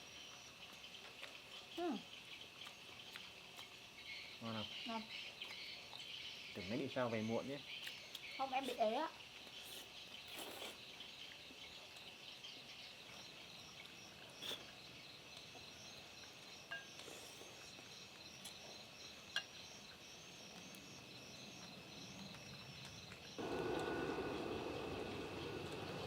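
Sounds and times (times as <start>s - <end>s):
insect chirps: 0.0s - 26.0s
high drone of insects: 3.7s - 26.0s.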